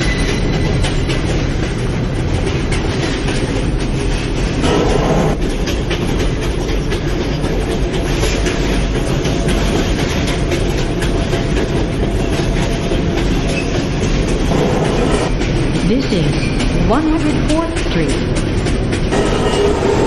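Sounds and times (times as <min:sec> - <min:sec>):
wheels clicking over rail joints: 0:00.0 - 0:04.7, 0:05.4 - 0:20.0
subway train rumble: 0:00.0 - 0:20.0.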